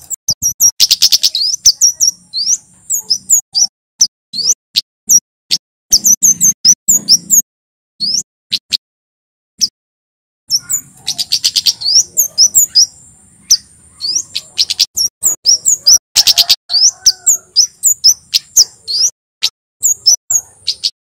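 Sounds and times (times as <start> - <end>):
bird chirping high: 0.0 - 5.2, 5.9 - 8.8, 10.5 - 21.0.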